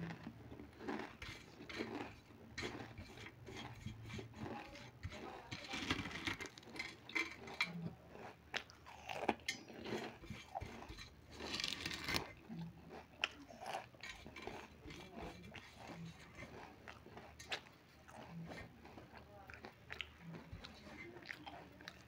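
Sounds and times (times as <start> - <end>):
potato chips crunching: 0.0 - 3.7, 4.4 - 22.0.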